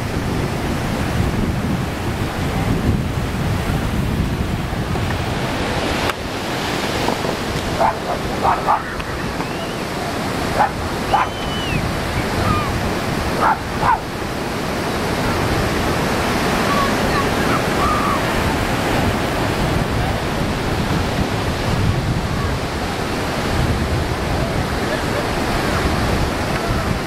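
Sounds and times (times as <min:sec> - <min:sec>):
waves washing over beach: 0:00.0 - 0:27.0
wind on microphone: 0:00.0 - 0:27.0.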